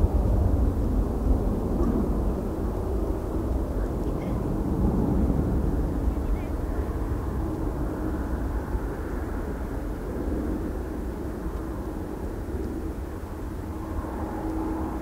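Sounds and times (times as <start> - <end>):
distant jet engines rumbling: 0.0 - 15.0
faint steady hum: 0.0 - 15.0.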